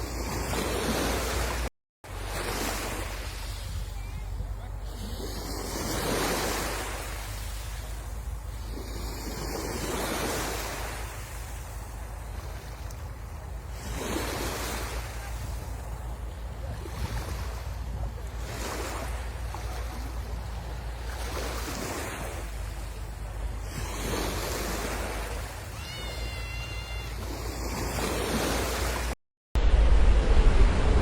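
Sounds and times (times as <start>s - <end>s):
wind rumble on microphone: 0.0s - 25.8s
sea waves breaking on shore: 0.0s - 31.0s.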